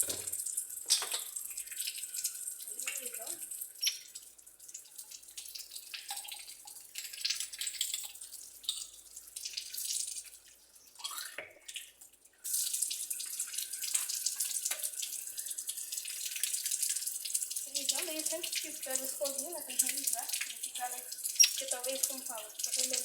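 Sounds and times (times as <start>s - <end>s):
tap water running into sink: 0.0s - 23.0s.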